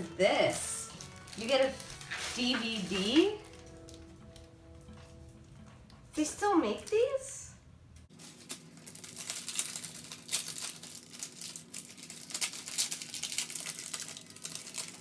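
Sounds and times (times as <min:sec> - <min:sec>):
plastic packaging crinkling: 0:00.4 - 0:06.0, 0:08.1 - 0:15.0.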